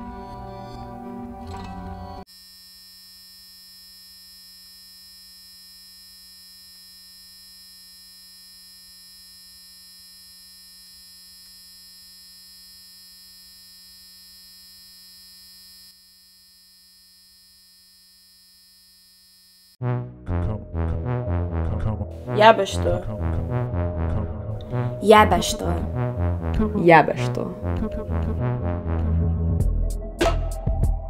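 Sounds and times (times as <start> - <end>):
electronic drone of pure tones: 0.0 - 19.8, 21.2 - 29.0.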